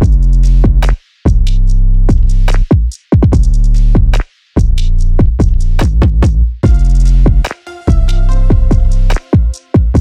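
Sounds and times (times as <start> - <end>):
electronic music with heavy bass: 0.0 - 2.6, 3.3 - 10.0.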